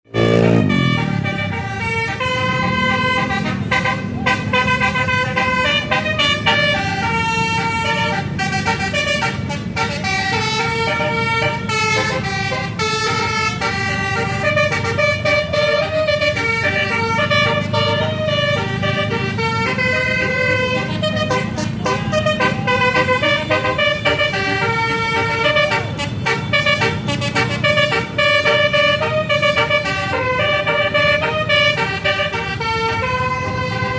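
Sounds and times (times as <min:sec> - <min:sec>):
bus engines rumbling: 0:00.0 - 0:33.9
musical bus horns melody: 0:00.1 - 0:33.9.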